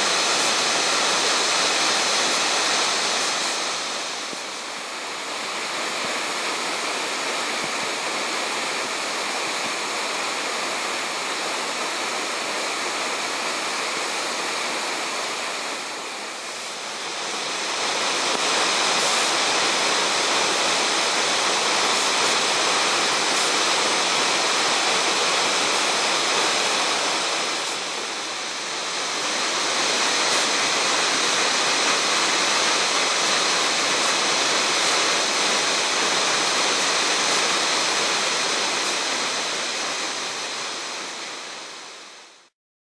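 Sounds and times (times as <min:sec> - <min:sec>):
waterfall rushing: 0:00.0 - 0:42.5.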